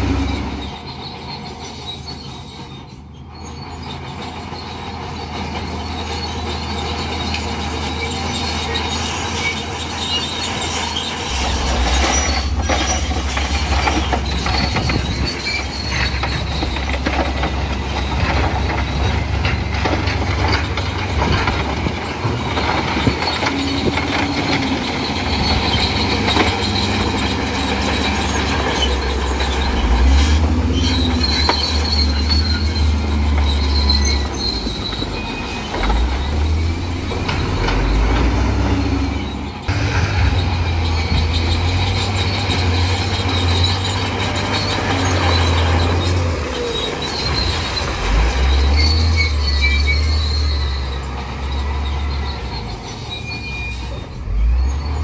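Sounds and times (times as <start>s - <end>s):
bulldozer diesel engine running: 0.0s - 55.0s
steel tracks grinding and clattering: 0.0s - 55.0s.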